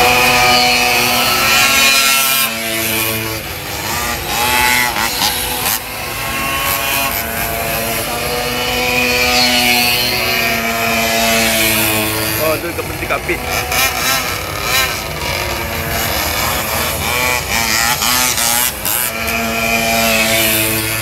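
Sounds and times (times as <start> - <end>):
small engines buzzing at high revs: 0.0 - 21.0.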